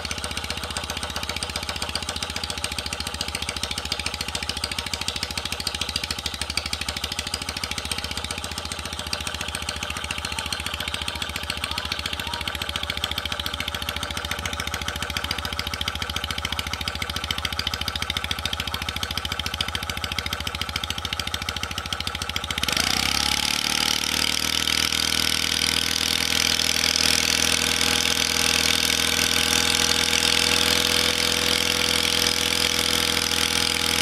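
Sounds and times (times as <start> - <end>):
steam engine exhaust beats: 0.0 - 34.0.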